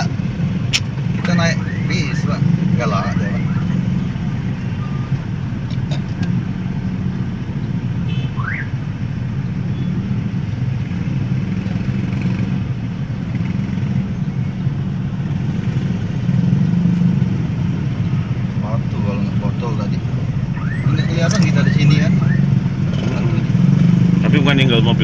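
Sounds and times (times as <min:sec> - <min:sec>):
engines idling: 0:00.0 - 0:25.0.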